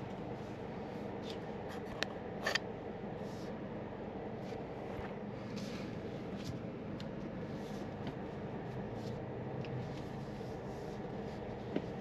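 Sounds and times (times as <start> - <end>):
car engine cabin hum: 0.0 - 12.0.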